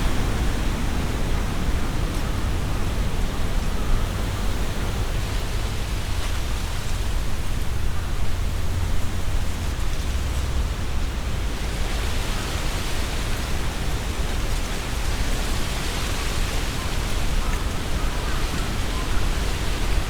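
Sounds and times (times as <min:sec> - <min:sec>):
leaves rustling in wind: 0:00.0 - 0:20.0.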